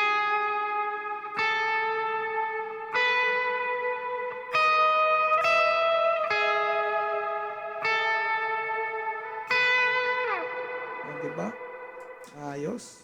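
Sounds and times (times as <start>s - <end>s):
electric guitar ringing chords: 0.0s - 13.0s.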